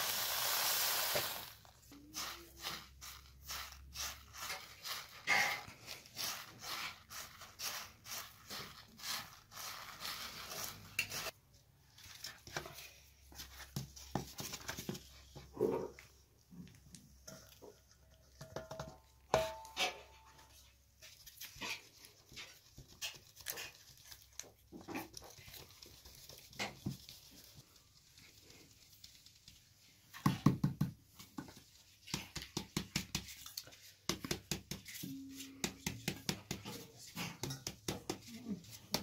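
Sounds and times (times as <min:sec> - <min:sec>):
flour sifting through sieve: 0:00.0 - 0:16.0, 0:20.5 - 0:30.2, 0:31.1 - 0:39.0.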